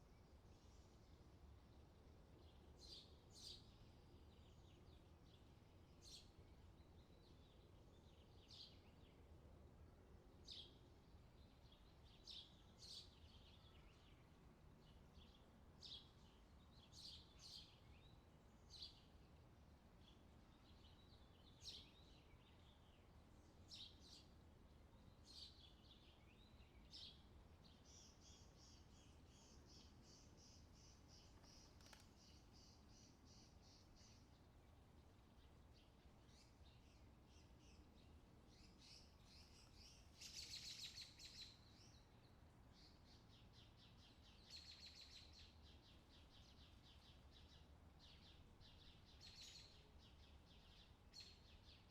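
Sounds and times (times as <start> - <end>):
low background noise: 0.0 - 51.9.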